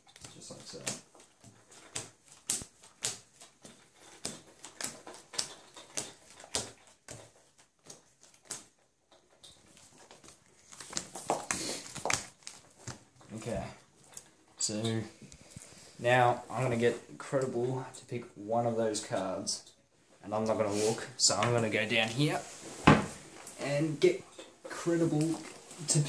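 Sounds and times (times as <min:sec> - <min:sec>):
rustle of cards being handled: 0:00.0 - 0:17.7, 0:20.0 - 0:26.0.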